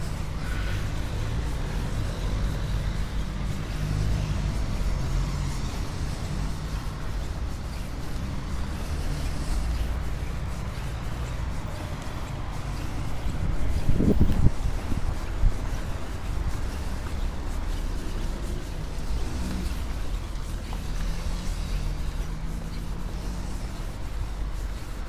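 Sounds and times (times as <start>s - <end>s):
cars driving by: 0.0s - 25.0s.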